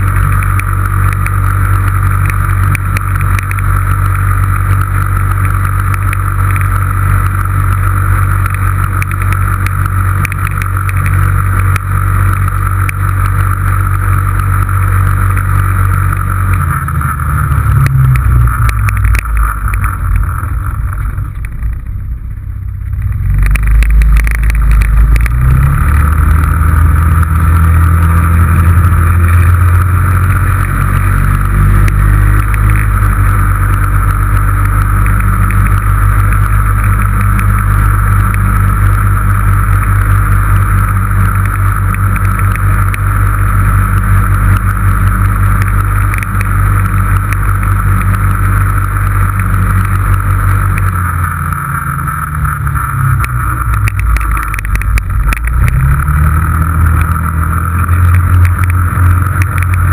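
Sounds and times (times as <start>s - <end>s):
engine running under way: 0.0s - 59.9s.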